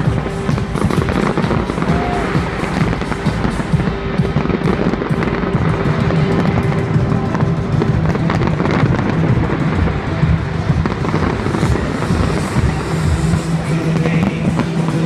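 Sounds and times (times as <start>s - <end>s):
fireworks bangs and crackles: 0.0s - 15.0s
loud music: 0.0s - 15.0s.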